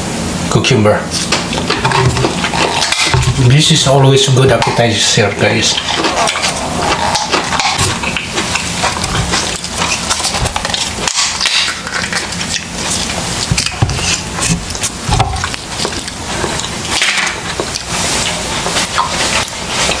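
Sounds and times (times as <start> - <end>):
chewing crisp cucumber: 1.1 - 20.0.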